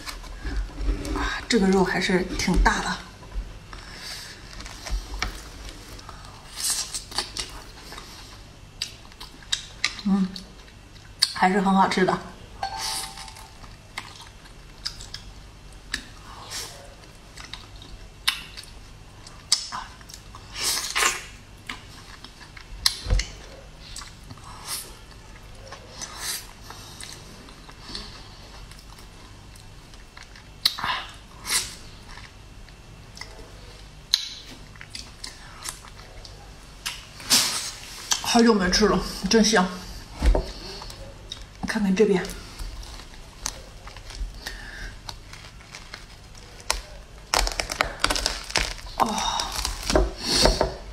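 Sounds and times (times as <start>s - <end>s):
chewing fruit flesh: 3.6s - 11.4s, 13.1s - 38.3s, 40.5s - 41.6s, 42.3s - 50.3s.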